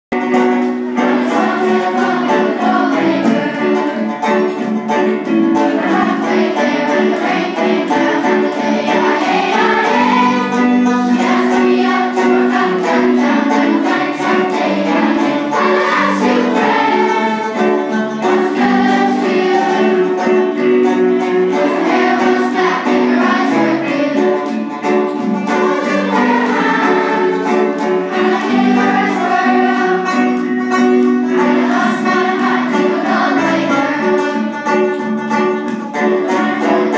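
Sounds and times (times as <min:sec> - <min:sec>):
banjo: 0:00.1 - 0:36.9
children's choir singing: 0:00.2 - 0:36.9.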